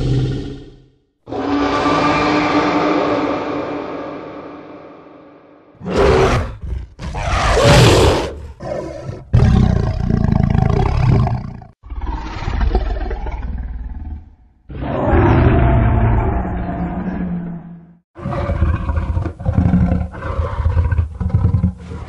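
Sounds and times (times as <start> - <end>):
deep dinosaur roars: 0.0 - 22.0.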